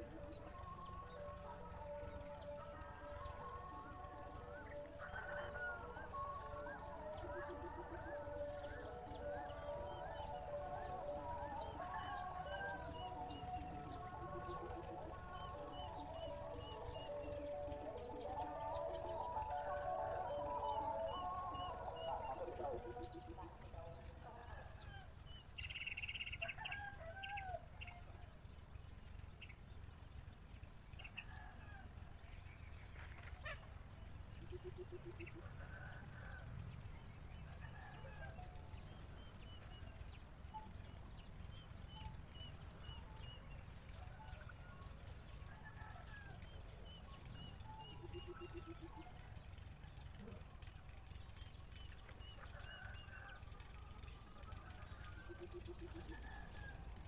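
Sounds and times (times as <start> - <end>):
bird calls and chirps: 0.0 - 57.0.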